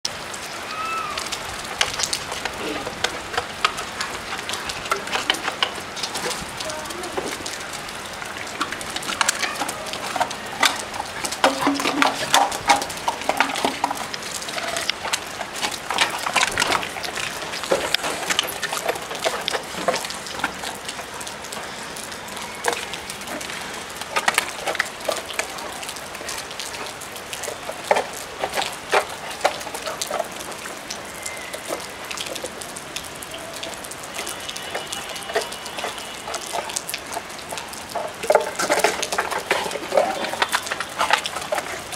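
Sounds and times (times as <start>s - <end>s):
heavy rain on concrete roof: 0.0s - 41.9s.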